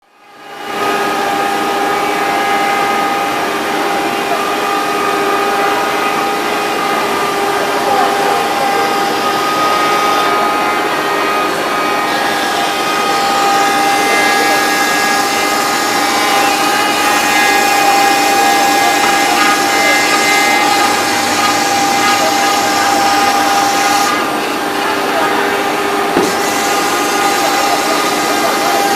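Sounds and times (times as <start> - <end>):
router spindle whine: 0.1 - 28.9.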